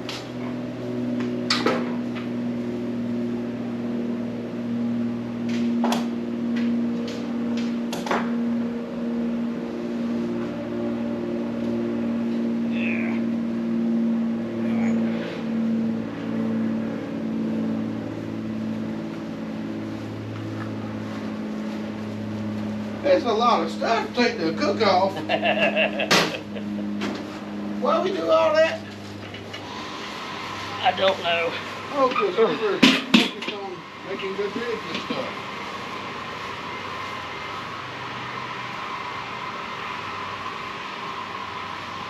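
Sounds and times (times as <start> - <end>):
steady machine hum: 0.0 - 42.0.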